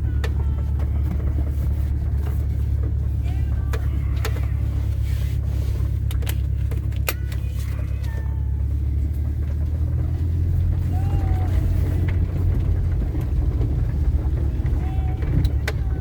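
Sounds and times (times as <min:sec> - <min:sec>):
cabin clicks and squeaks: 0:00.0 - 0:10.2, 0:13.2 - 0:16.0
car exhaust drone: 0:00.0 - 0:16.0.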